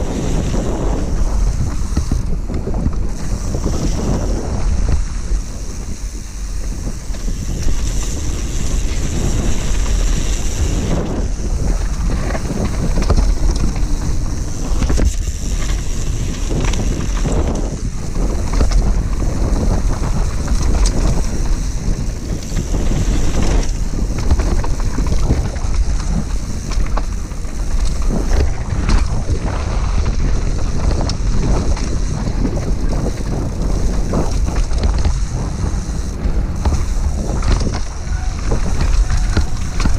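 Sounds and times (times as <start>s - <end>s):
bike knocks and rattles: 0.0s - 39.9s
tyre noise on dirt: 0.0s - 39.9s
wind on microphone: 0.0s - 39.9s.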